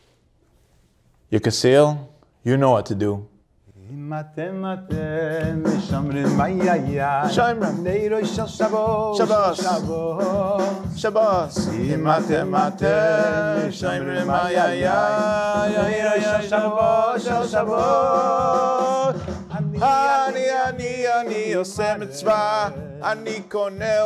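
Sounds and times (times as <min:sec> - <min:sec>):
man singing with vibrato: 0:03.8 - 0:24.0.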